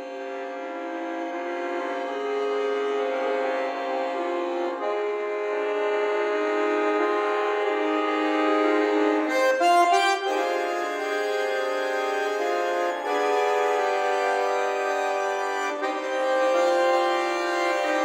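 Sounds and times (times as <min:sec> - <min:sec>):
accordion playing chords: 0:00.0 - 0:18.0.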